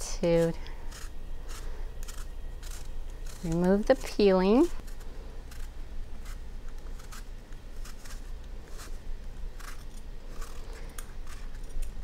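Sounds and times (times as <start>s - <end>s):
peeler scraping apple skin: 0.0s - 4.2s, 4.8s - 12.0s.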